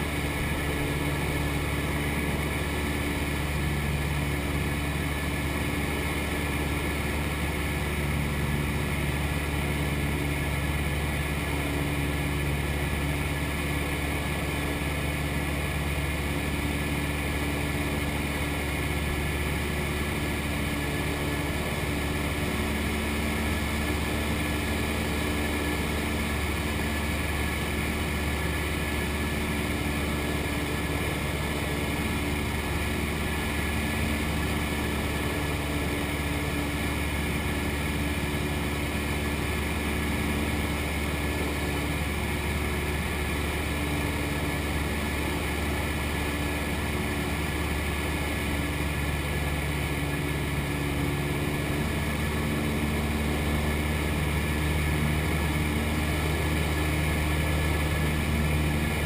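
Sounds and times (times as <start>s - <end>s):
plane engine and propeller droning: 0.0s - 59.0s.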